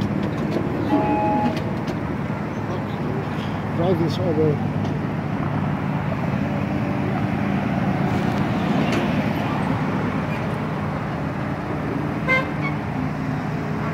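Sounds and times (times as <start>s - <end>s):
miniature train rumbling on track: 0.0s - 13.8s.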